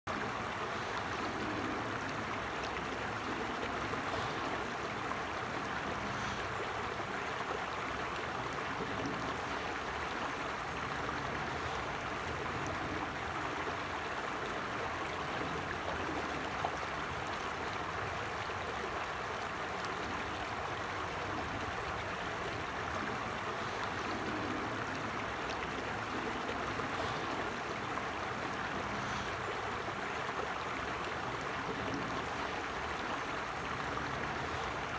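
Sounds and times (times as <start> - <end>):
stream rushing over stones: 0.1 - 34.9.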